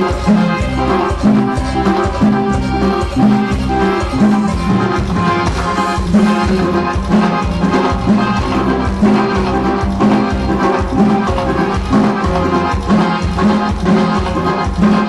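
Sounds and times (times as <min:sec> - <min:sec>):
dance music: 0:00.0 - 0:15.0
repeating bass line: 0:00.0 - 0:15.0
steady drum beat: 0:00.0 - 0:15.0.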